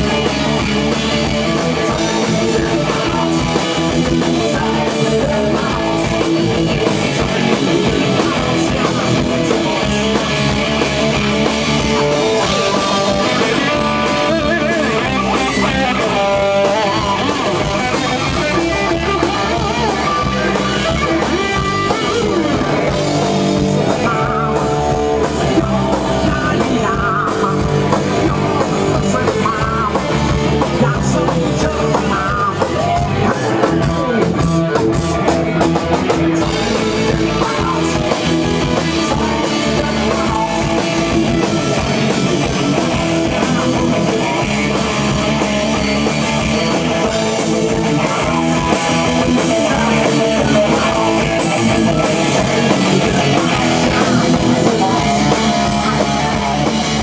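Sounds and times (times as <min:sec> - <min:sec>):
electric guitars: 0:00.0 - 0:57.0
person singing: 0:00.0 - 0:57.0
rock band playing live: 0:00.0 - 0:57.0.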